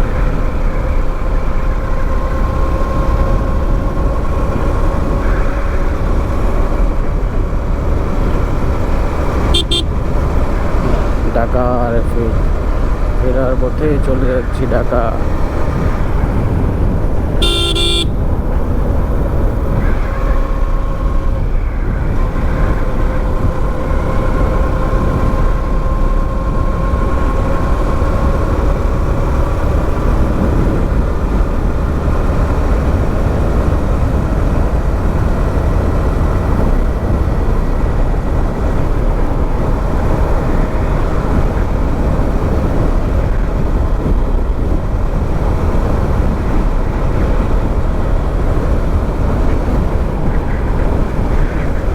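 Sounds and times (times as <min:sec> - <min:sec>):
faint engine hum: 0:00.0 - 0:51.9
wind rumble on microphone: 0:00.0 - 0:51.9.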